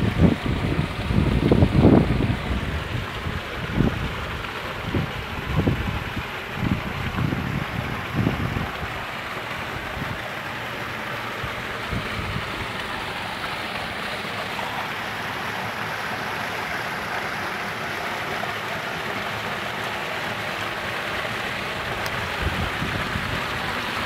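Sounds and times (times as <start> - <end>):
small waterfall splashing: 0.0 - 24.0.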